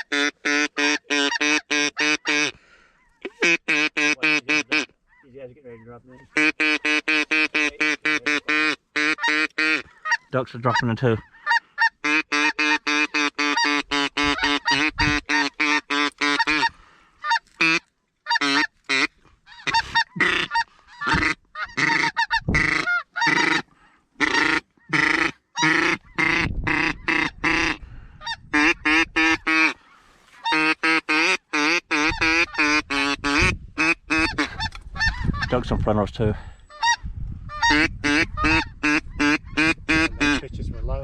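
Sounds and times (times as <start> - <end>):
geese honking: 0.0 - 35.7, 36.7 - 40.4.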